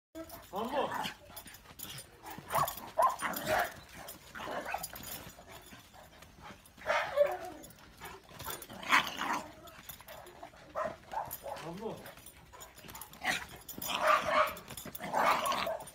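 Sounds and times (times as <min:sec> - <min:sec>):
dogs barking and yipping: 0:00.2 - 0:15.9.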